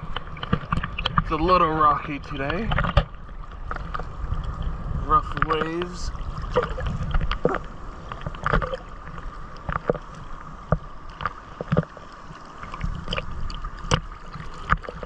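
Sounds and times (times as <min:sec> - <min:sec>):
seawater sloshing and slapping: 0:00.0 - 0:15.0
waves splashing and knocking: 0:00.0 - 0:15.0.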